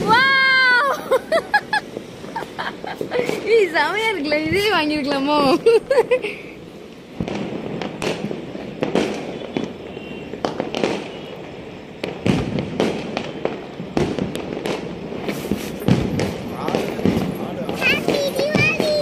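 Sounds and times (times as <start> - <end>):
firecrackers and fireworks banging: 0.0 - 19.0.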